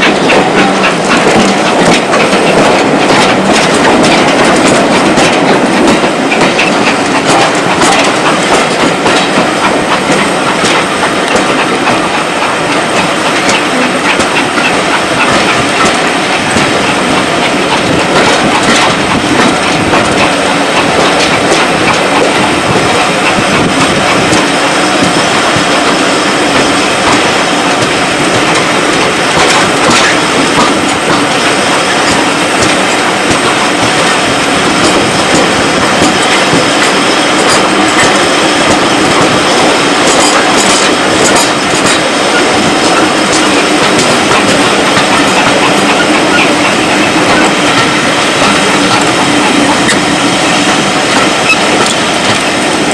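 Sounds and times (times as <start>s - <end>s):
rail joint clicks: 0.0s - 52.9s
train wheels rumbling on rail: 0.0s - 52.9s.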